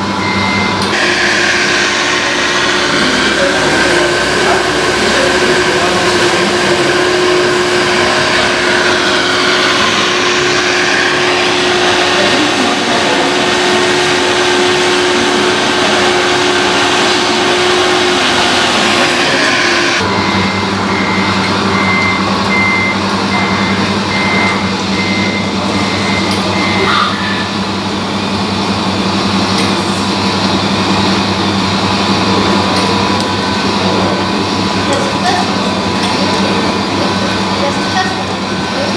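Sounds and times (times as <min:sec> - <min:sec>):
model trucks humming: 0:00.0 - 0:38.9
reversing beeper: 0:00.0 - 0:38.9.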